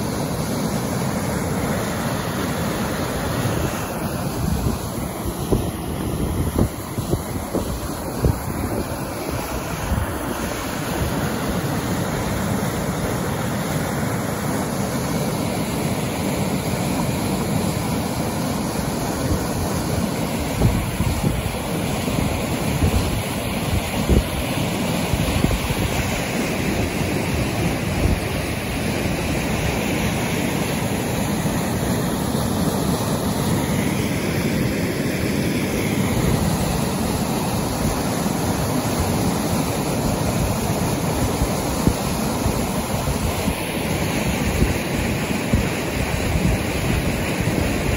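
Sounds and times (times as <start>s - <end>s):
river rushing over rocks: 0.0s - 47.9s.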